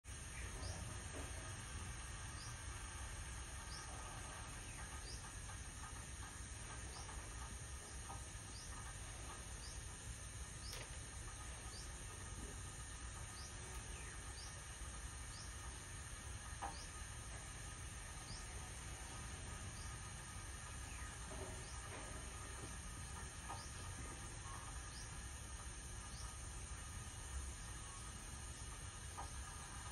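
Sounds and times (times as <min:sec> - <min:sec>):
low steady rumble: 0:00.1 - 0:29.9.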